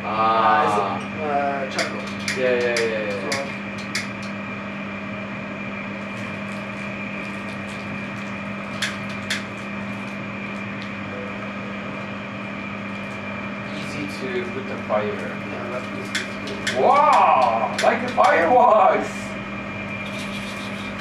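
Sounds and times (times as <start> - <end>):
kitchen appliance humming: 0.0 - 21.0.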